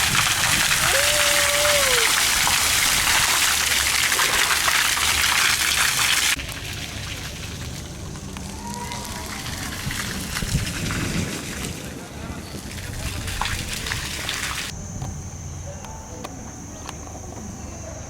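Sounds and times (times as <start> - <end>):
falling water: 0.0 - 14.7.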